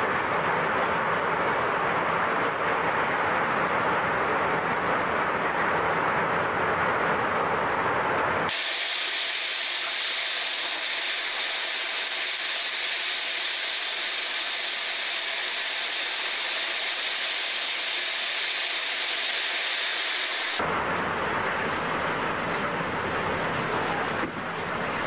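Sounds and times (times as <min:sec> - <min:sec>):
loud steady hiss: 0:00.0 - 0:25.0.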